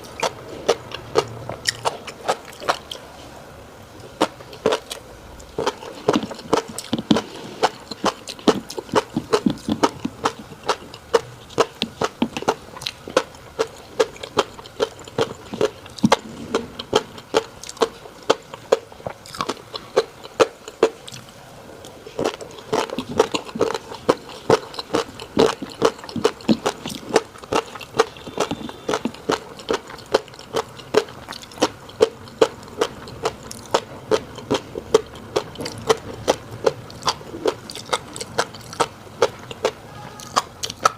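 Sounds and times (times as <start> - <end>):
close chewing clicks and pops: 0.0 - 3.1, 4.0 - 40.9.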